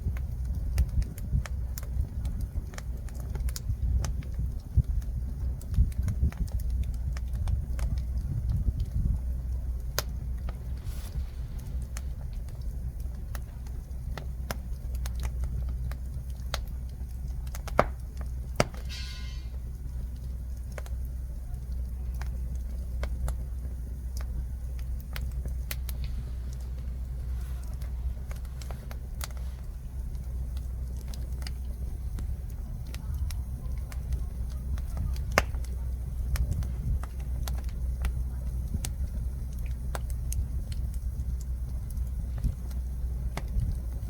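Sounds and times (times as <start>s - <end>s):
low fire rumble: 0.0s - 44.0s
wood fire crackling and popping: 0.0s - 44.0s.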